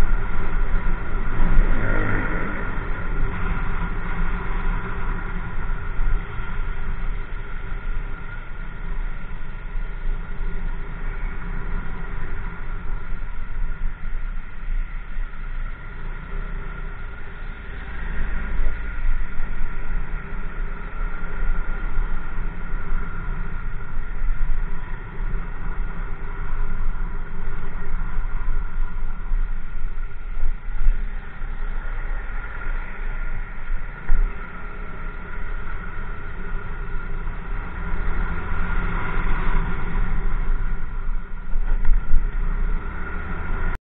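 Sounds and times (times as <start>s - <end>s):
wind rumble on microphone: 0.0s - 43.8s.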